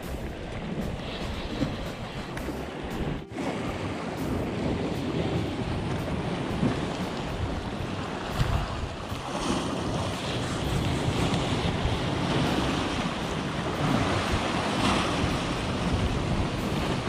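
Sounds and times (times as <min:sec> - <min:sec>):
sea surf breaking on rocks: 0:00.0 - 0:17.0.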